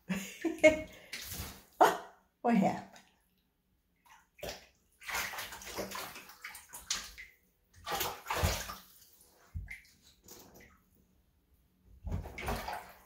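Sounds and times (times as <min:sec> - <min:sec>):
water splashing and sloshing: 0:00.2 - 0:01.8, 0:02.7 - 0:13.0.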